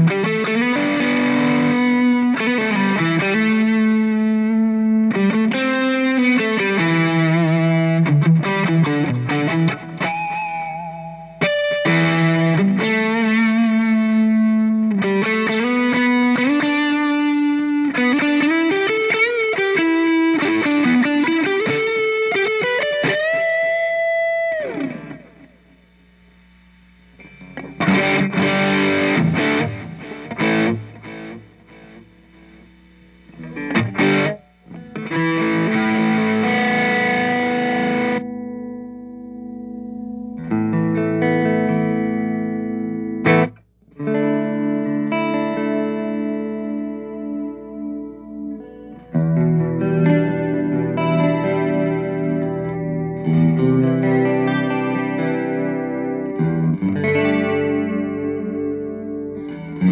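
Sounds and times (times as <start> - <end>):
electric guitar chords ringing: 0.0 - 59.9
electric guitar lead line: 0.0 - 59.9.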